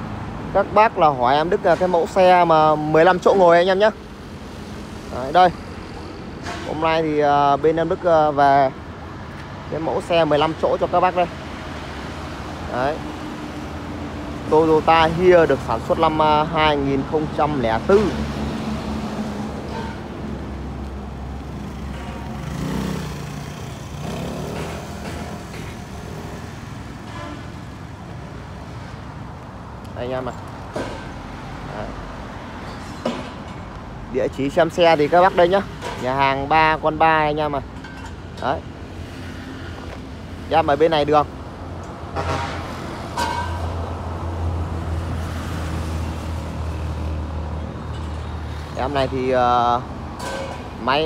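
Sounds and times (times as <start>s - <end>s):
low traffic rumble: 0.0s - 51.0s
vehicles passing: 0.0s - 51.0s.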